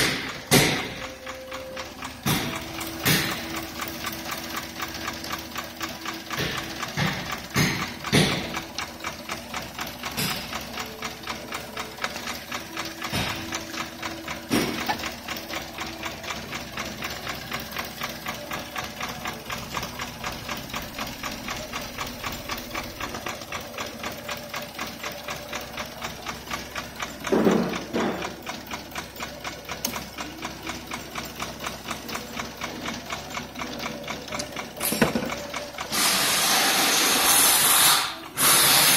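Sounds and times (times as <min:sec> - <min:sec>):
engine knocks: 0:00.0 - 0:37.2
car engine idling with ticking: 0:00.0 - 0:38.9.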